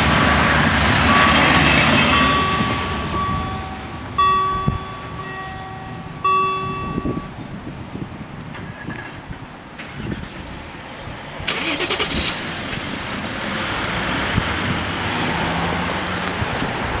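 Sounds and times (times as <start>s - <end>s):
car passing close: 0.0s - 7.2s, 9.7s - 17.0s
traffic engines and tyre noise: 0.0s - 17.0s.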